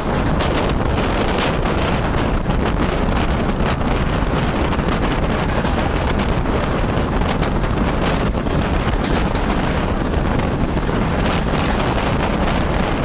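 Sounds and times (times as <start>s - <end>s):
moving train running noise: 0.0s - 13.0s
wind on microphone: 0.0s - 13.0s.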